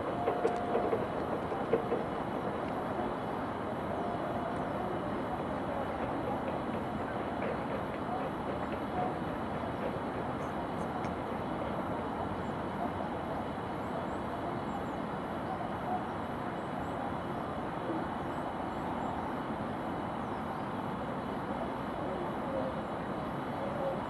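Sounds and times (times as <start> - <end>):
distant city traffic hum: 0.0 - 24.0.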